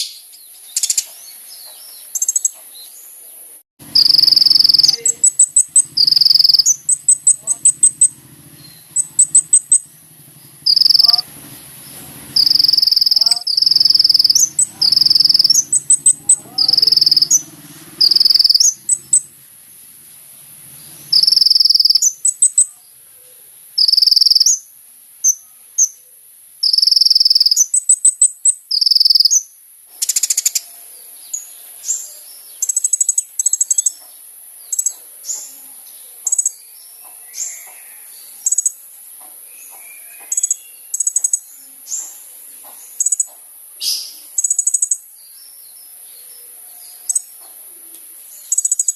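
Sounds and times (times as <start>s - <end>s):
bird chirping: 0.0s - 48.9s
bird singing buzzy trills: 1.6s - 2.6s, 3.8s - 48.9s.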